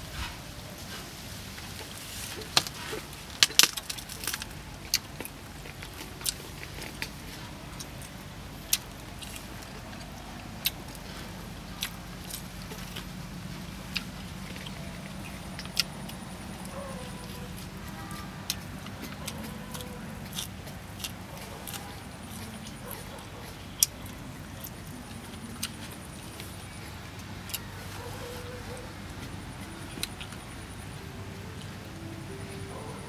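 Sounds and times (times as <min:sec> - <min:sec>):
low background hum: 0:00.0 - 0:33.0
chewing with crackling clicks: 0:01.8 - 0:30.8.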